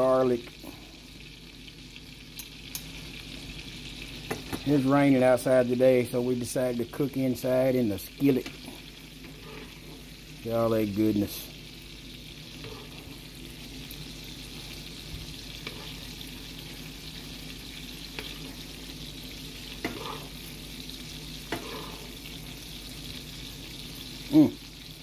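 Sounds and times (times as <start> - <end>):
steak sizzling in butter: 0.0 - 25.0.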